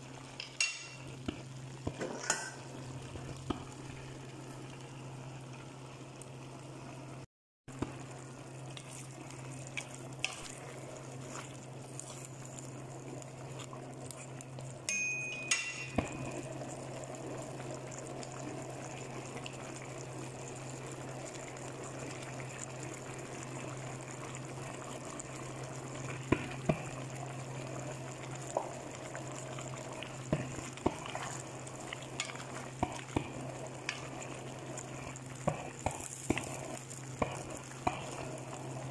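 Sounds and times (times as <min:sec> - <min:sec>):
stew simmering and sizzling: 0:00.0 - 0:38.9.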